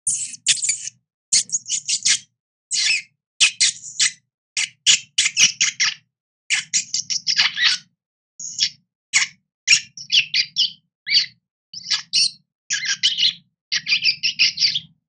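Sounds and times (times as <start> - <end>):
rodent squeaking: 0.0 - 14.9.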